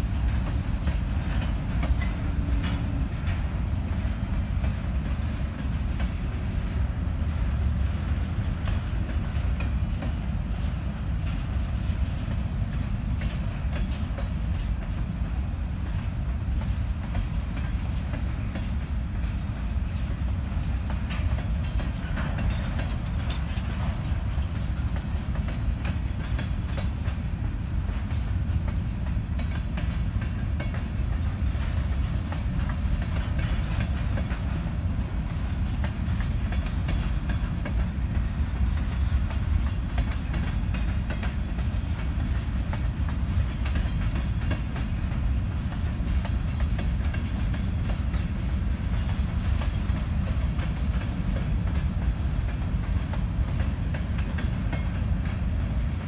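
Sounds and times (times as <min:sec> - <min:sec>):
train cars rolling past: 0:00.0 - 0:56.0.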